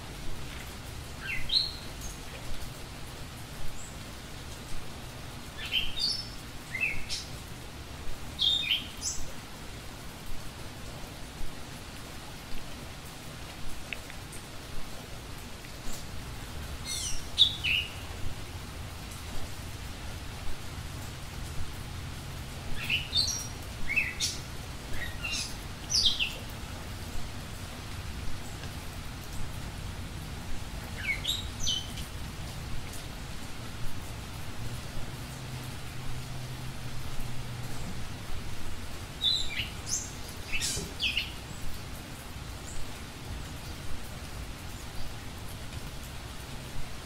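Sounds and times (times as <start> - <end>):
steady hiss with soft pops: 0.0 - 47.0.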